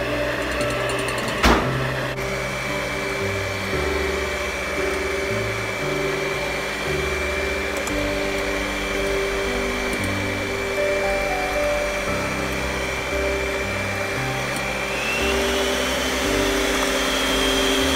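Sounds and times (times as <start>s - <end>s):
electric hand mixer whipping: 0.0s - 17.9s
steady high whine: 0.0s - 17.9s.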